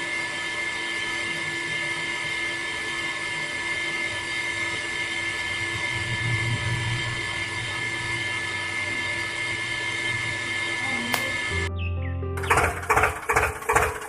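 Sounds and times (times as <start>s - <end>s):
small electric motor whining: 0.0s - 11.6s.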